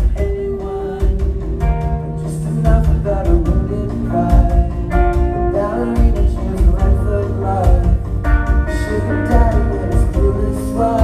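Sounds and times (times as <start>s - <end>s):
bass guitar: 0.0s - 11.0s
electric guitars: 0.0s - 11.0s
steady drum beat: 0.0s - 11.0s.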